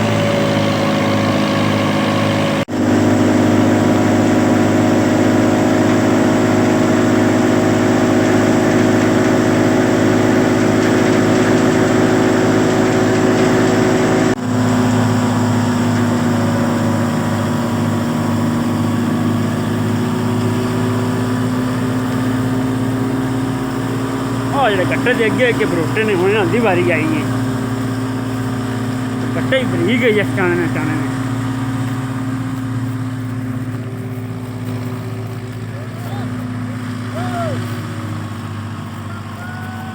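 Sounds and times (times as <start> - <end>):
thresher machine droning: 0.0 - 39.9.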